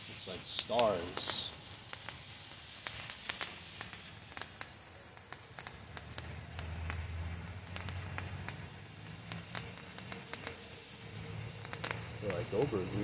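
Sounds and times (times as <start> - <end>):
firework fountain hissing: 0.0 - 13.0
sparks crackling and popping: 0.0 - 13.0.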